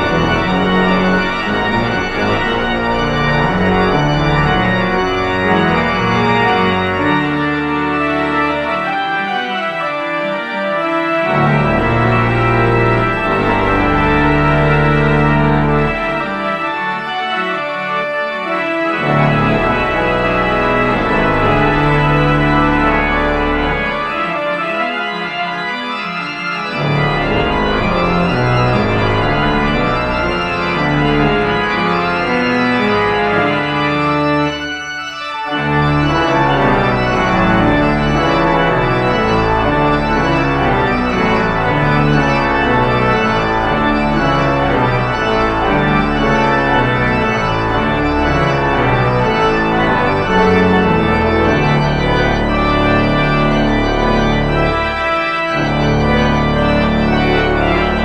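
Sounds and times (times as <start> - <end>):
pipe organ chords: 0.0 - 58.0.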